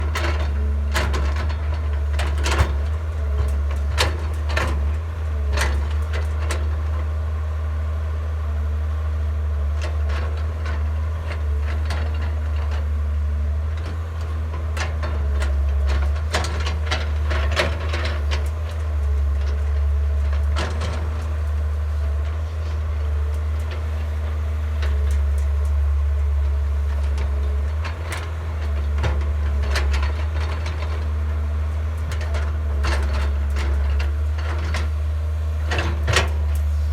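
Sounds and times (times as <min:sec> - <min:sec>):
excavator diesel engine droning: 0:00.0 - 0:36.9.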